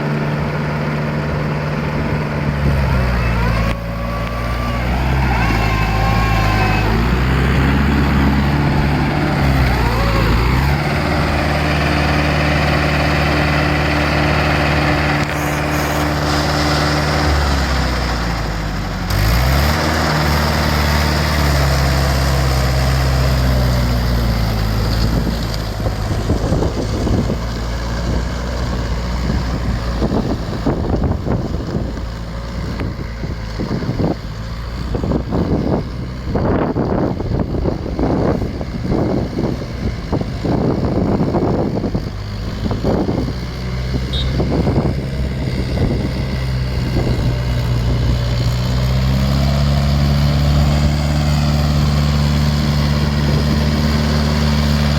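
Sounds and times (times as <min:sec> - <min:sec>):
tractor diesel engine working: 0:00.0 - 0:54.9.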